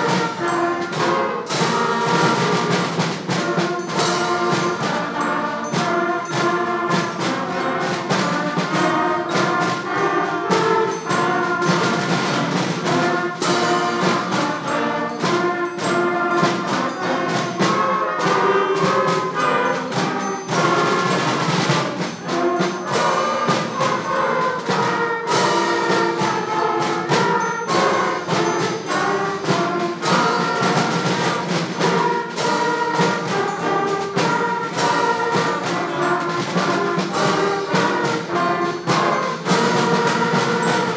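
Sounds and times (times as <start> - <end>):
concert band playing: 0.0 - 40.9
percussion strokes: 0.0 - 40.9.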